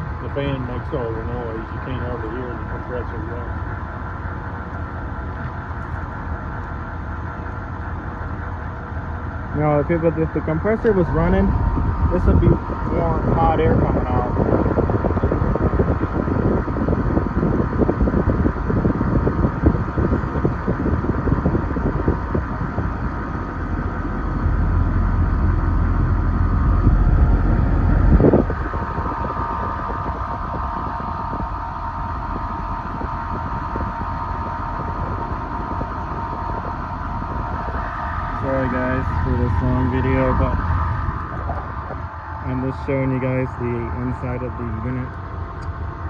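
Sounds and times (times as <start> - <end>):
condenser fan humming: 0.0 - 46.0
wind rumble on microphone: 0.0 - 46.0.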